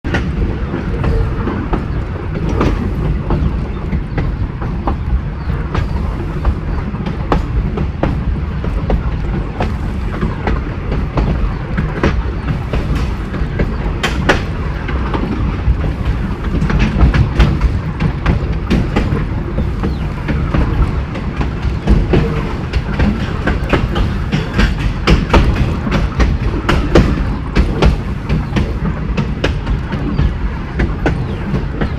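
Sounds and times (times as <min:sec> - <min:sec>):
train rumbling along track: 0:00.0 - 0:31.9
wheels clattering over rail joints: 0:00.1 - 0:31.9.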